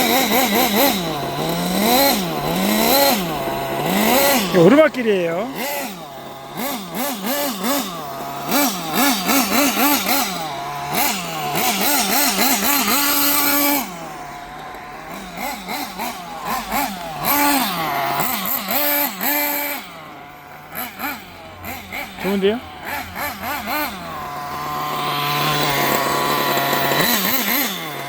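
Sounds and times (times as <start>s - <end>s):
small engine revving in blips: 0.0s - 28.0s.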